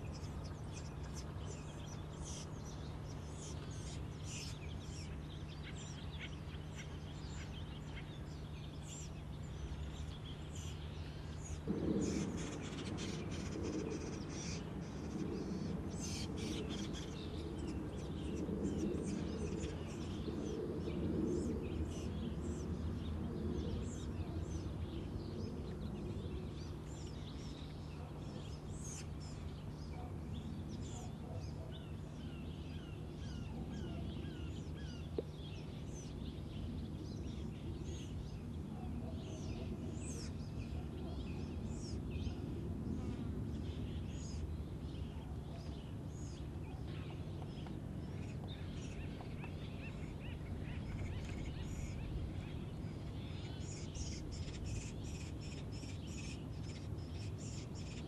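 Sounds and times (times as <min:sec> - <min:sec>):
birds chirping and calling: 0:00.0 - 0:58.0
low background rumble: 0:00.0 - 0:58.0.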